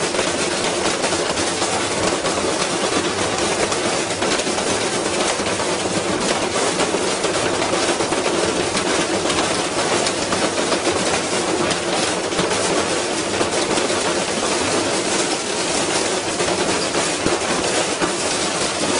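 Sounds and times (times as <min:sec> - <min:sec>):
washing machine rattling: 0:00.0 - 0:18.9.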